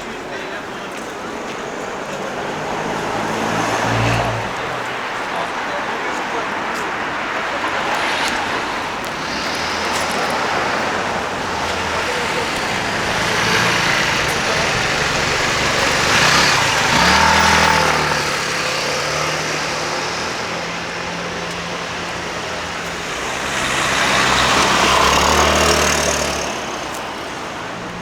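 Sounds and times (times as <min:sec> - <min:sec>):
steady traffic hiss: 0:00.0 - 0:28.0
vehicles driving past: 0:00.0 - 0:28.0.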